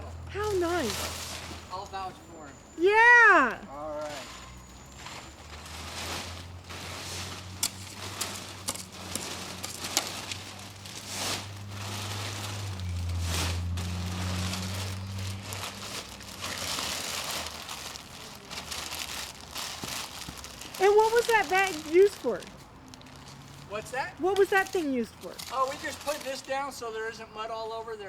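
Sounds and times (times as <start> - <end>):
plastic sheet crinkling: 0.4 - 1.7, 5.1 - 26.8.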